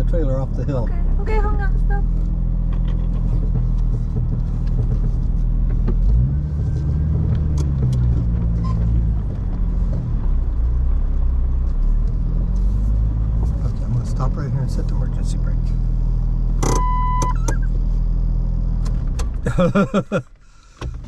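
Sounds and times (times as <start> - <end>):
engine running and revving: 0.0 - 19.6.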